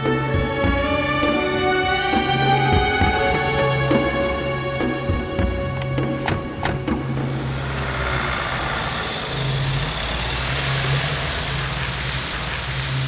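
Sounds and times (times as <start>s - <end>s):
van engines running: 0.0s - 13.0s
doors shutting: 0.3s - 11.6s.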